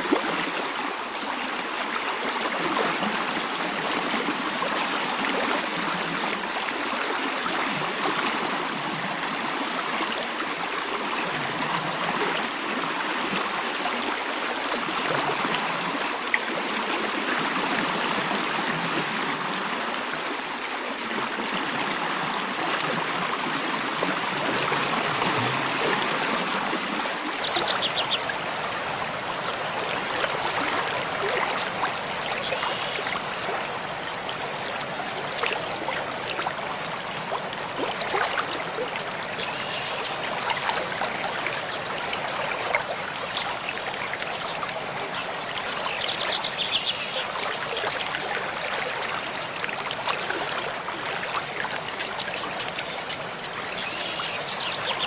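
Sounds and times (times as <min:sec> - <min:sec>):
mountain stream running: 0:00.0 - 0:55.0.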